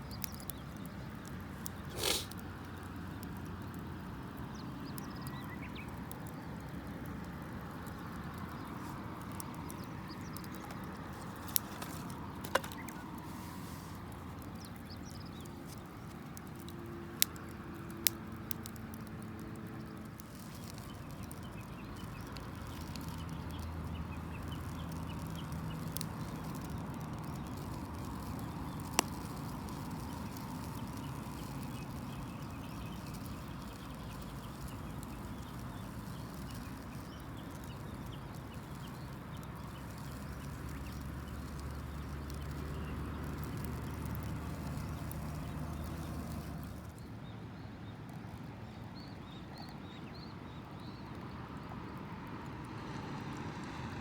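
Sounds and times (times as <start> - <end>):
wood fire rushing: 0.0 - 47.0
burning wood popping: 0.0 - 47.1.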